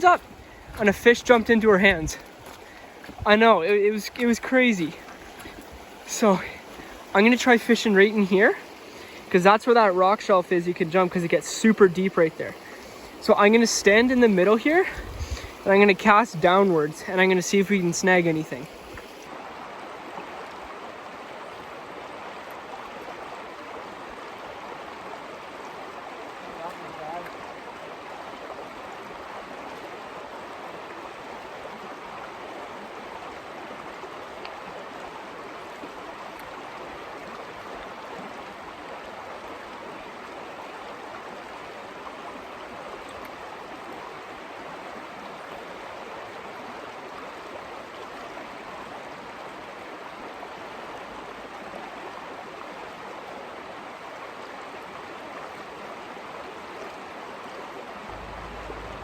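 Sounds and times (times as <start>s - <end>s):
creek flowing over rocks: 0.0s - 59.0s.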